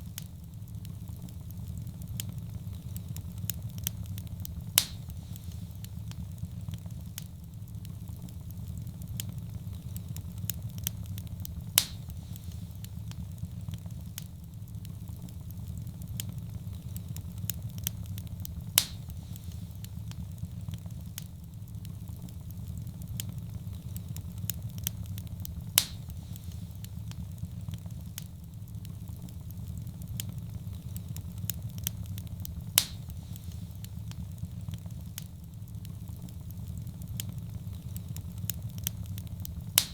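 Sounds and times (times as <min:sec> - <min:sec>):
fire crackling: 0:00.0 - 0:39.9
low rumble of flame: 0:00.0 - 0:39.9
sharp pops from fire: 0:00.0 - 0:39.9.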